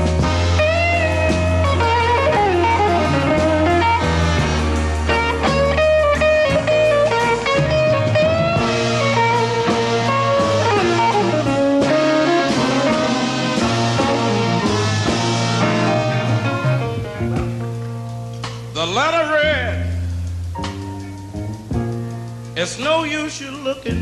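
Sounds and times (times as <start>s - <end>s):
bass and drums: 0.0s - 24.0s
blues-rock lead guitar: 0.0s - 24.0s.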